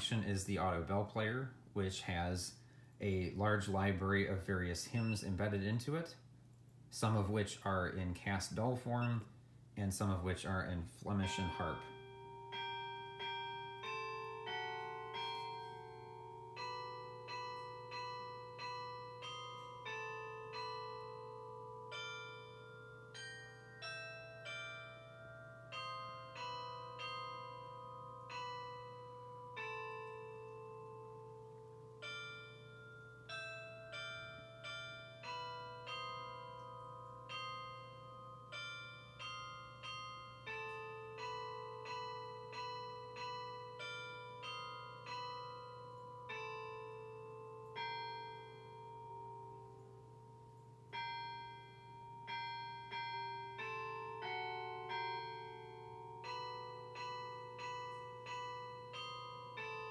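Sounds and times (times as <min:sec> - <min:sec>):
carillon bell notes: 0:07.0 - 0:59.9.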